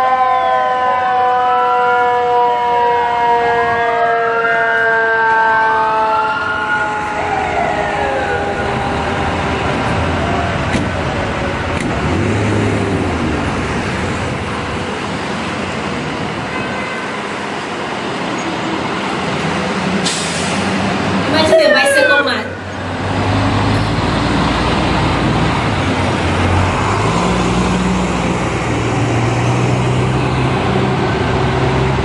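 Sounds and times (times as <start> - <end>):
fire truck sirens wailing: 0.0 - 32.0
road traffic engine noise: 0.0 - 32.0.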